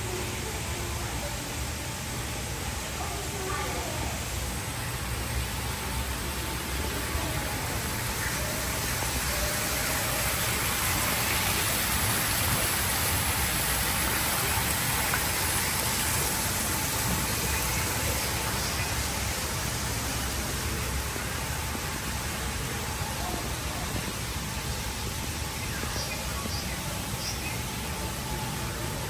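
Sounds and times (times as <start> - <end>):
waterfall splashing into pond: 0.0 - 29.0.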